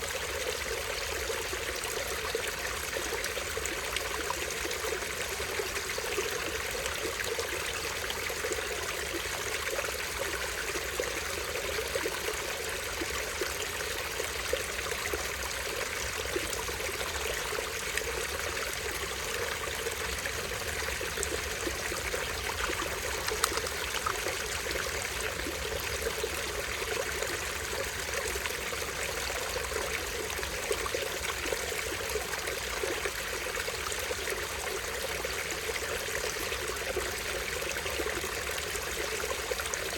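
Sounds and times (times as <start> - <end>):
water trickling over small waterfall: 0.0 - 39.9.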